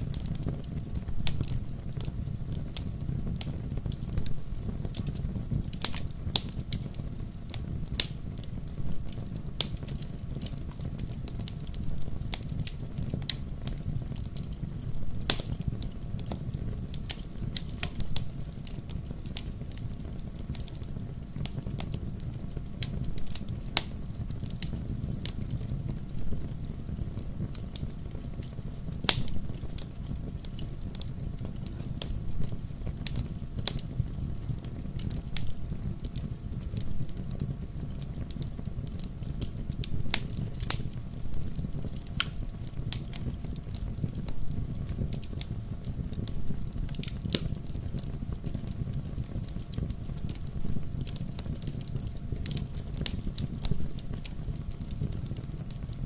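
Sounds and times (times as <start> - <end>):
bonfire crackling and popping: 0.0 - 56.0
fire low rumble: 0.0 - 56.0.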